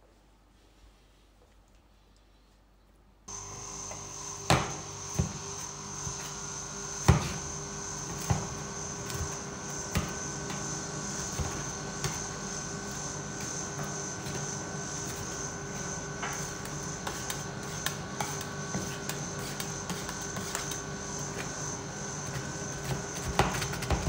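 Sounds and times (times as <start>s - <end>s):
steady hum: 3.1s - 24.0s.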